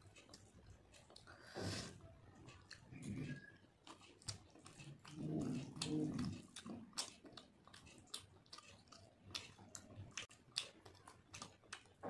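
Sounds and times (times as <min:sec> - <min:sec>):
chewing rice: 0:00.0 - 0:12.0.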